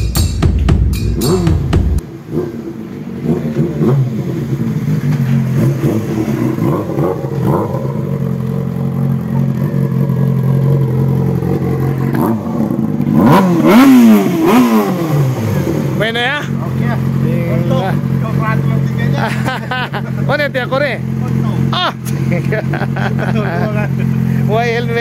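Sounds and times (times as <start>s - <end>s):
motorcycle engine idling: 0.0s - 25.0s
motorcycle engine revving: 0.7s - 25.0s.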